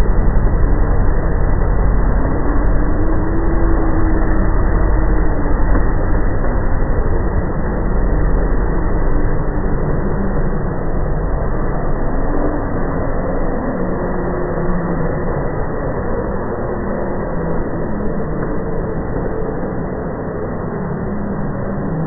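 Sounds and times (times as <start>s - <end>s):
low rumbling drone in the sky: 0.0s - 22.0s.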